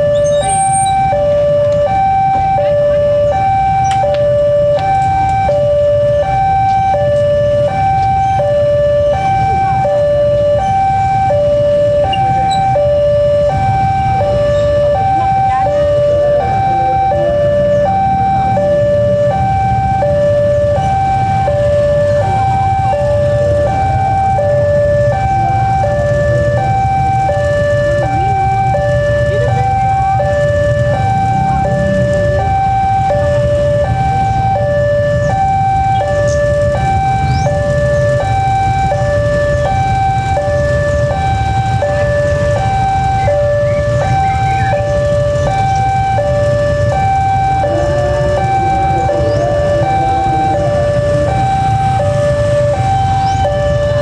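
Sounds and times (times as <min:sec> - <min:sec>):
motorbike engines idling: 0:00.0 - 0:54.0
two-tone crossing alarm: 0:00.0 - 0:54.0.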